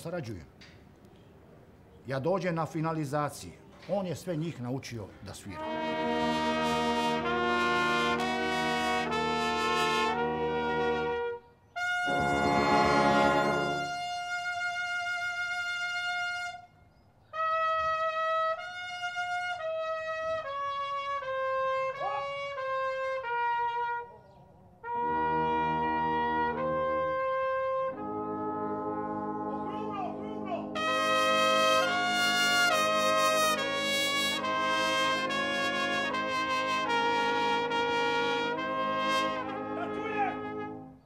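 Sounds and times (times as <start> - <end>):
brass band playing: 5.5 - 16.7, 17.4 - 24.1, 24.8 - 41.0
solo trumpet melody: 5.6 - 24.2, 24.8 - 41.0.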